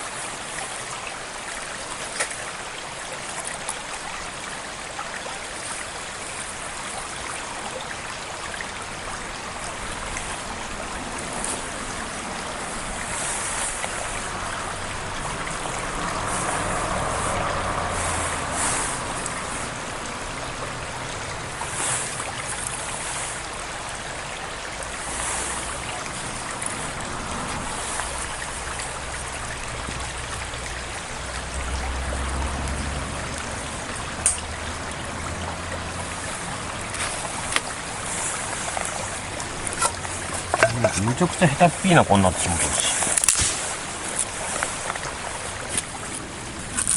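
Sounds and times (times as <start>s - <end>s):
stream rushing: 0.0s - 46.9s.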